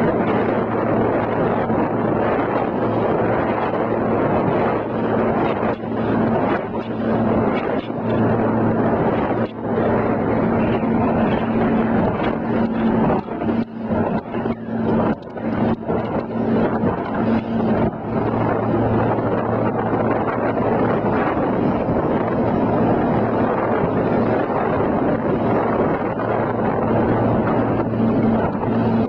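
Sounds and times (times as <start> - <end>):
motorboat engine hum: 0.0 - 29.0
wind and water rushing: 0.0 - 29.0.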